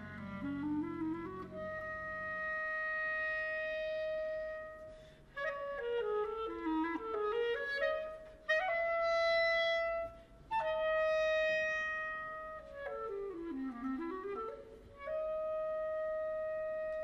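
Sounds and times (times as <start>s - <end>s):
clarinet playing: 0.0s - 17.0s.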